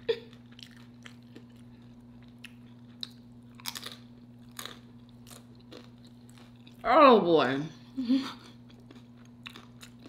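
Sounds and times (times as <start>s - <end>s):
chewing crunchy food: 0.0s - 6.9s, 8.3s - 10.0s
steady low hum: 0.0s - 10.0s.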